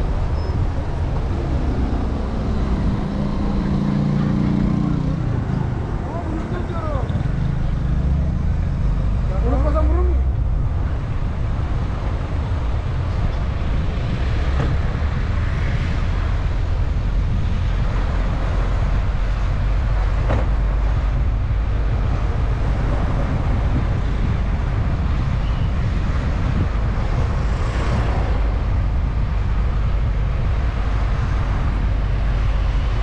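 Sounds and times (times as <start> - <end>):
car road and wind noise: 0.0 - 33.0.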